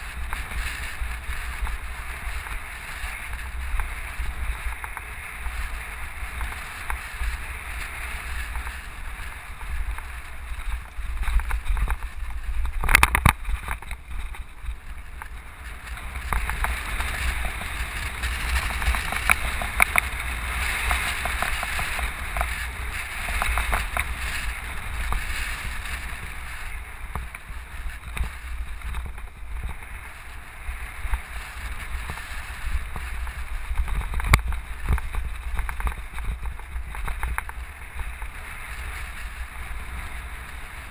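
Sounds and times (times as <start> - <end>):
road hiss: 0.0 - 40.9
vehicle rumbling on dirt road: 0.0 - 40.9.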